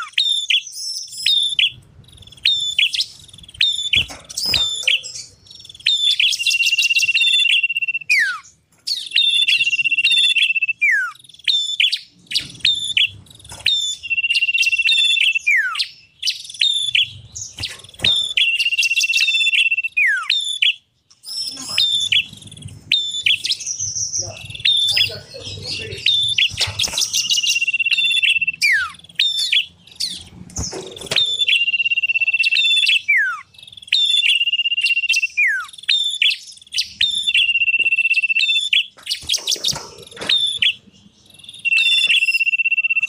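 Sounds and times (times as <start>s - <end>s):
songbirds chip notes: 0.0s - 43.0s.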